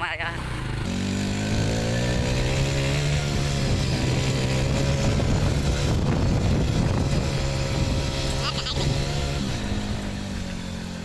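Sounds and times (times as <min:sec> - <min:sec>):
motorbike engine running: 0:00.0 - 0:11.0
road and wind noise: 0:00.0 - 0:11.0.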